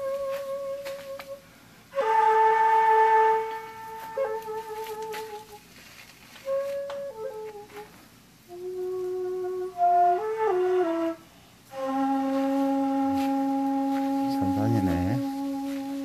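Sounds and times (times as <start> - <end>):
slow flute-like melody: 0.0 - 16.0.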